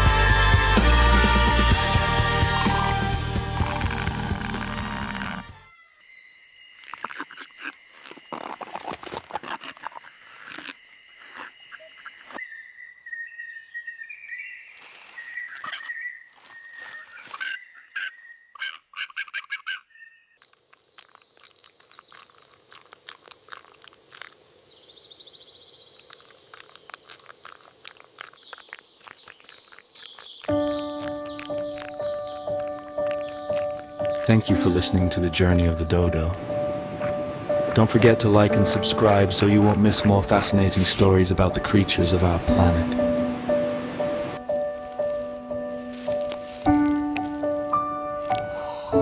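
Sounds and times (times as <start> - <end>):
animal and bird calls: 3.5 - 38.0, 42.0 - 49.0.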